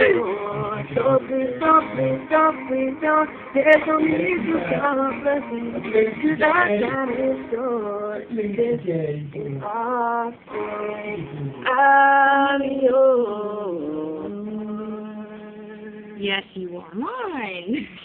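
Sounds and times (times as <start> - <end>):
young man singing: 0.0 - 16.2
acoustic guitar: 0.0 - 18.0.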